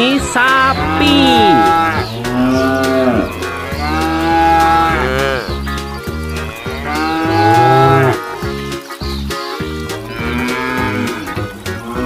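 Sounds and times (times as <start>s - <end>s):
cow mooing: 0.3s - 8.4s, 10.0s - 12.0s.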